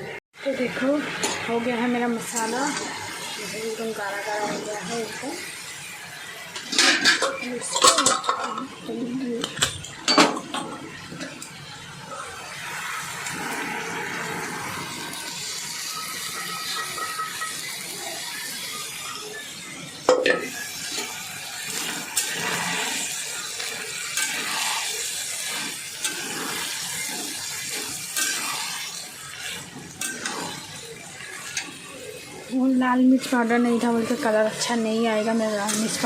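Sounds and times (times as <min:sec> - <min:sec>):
utensil scraping metal cookware: 0:00.8 - 0:05.6, 0:06.4 - 0:11.5, 0:12.1 - 0:19.4, 0:20.0 - 0:36.0
water pouring: 0:02.2 - 0:36.0.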